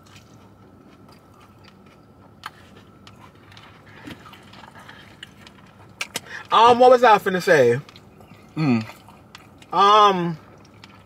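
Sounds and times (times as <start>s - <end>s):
person chewing food: 0.0s - 6.6s, 7.8s - 11.0s.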